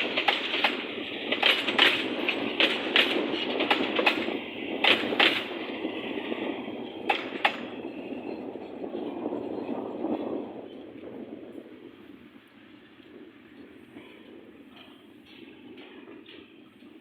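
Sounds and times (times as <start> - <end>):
train cars rumbling: 0.0 - 17.0
train wheels clacking over rail joints: 0.0 - 17.0.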